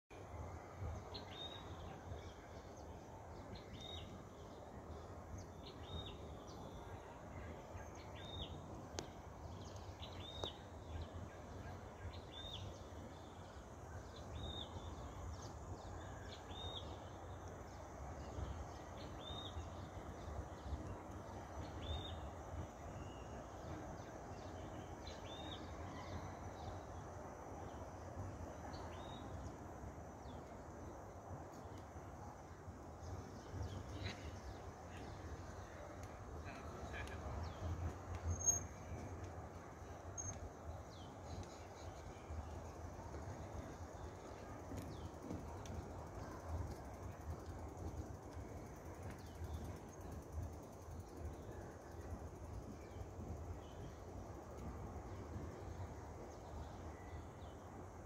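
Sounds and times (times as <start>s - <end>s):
low outdoor background rumble: 0.1s - 58.0s.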